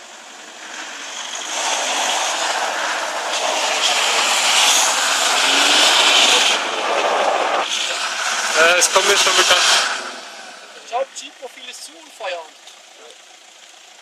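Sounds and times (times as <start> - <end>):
vehicle engine roaring: 0.0 - 14.0.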